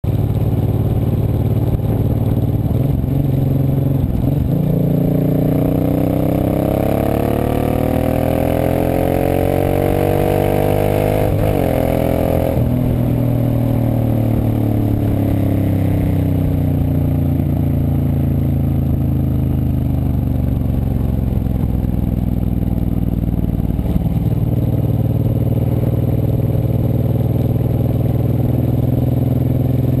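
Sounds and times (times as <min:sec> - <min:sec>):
motorcycle engine revving: 0:00.1 - 0:30.0.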